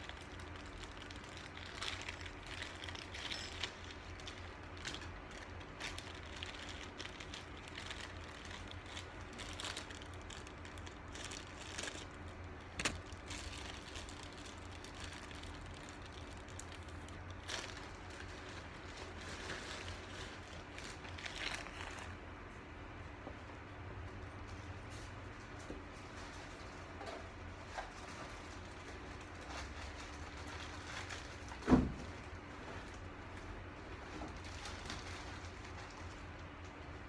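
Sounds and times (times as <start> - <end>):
plastic sheeting rustling: 0.0 - 22.2, 27.5 - 36.5
low room hum: 0.0 - 37.0.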